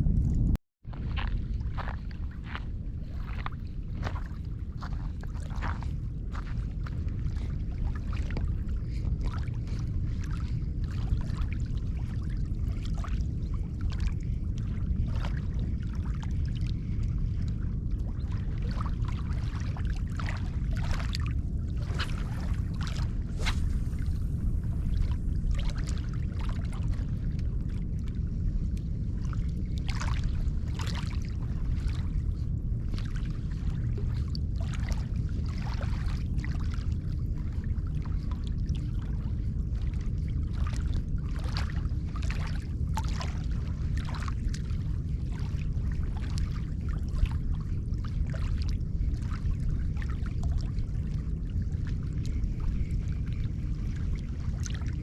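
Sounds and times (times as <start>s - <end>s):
steady low rumble: 0.0s - 55.0s
small waves lapping on shore: 0.9s - 27.8s, 29.1s - 55.0s.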